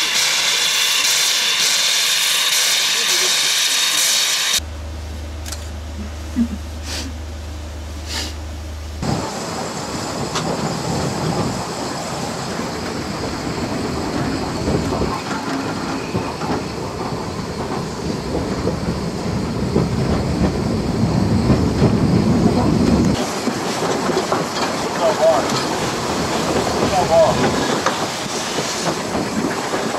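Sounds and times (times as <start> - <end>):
steam train rushing: 0.0 - 4.6, 9.0 - 29.9.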